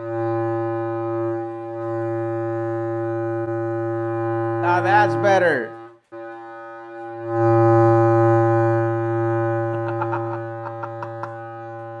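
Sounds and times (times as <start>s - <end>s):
homemade air horn buzzing: 0.0s - 12.0s.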